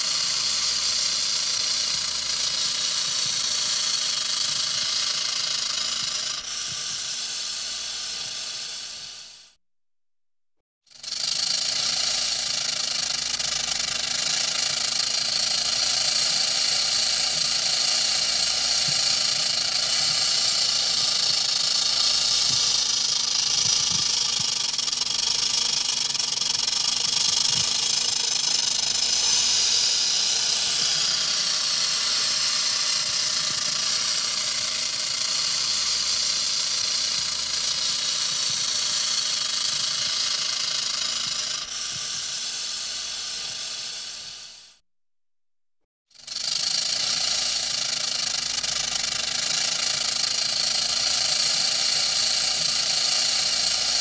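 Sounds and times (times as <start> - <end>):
rattlesnake rattling: 0.0 - 9.6, 10.9 - 44.8, 46.1 - 54.0.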